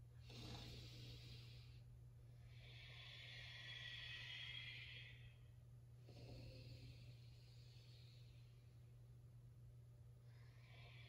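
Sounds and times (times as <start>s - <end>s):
faint breathing: 0.0s - 9.0s, 10.2s - 11.0s.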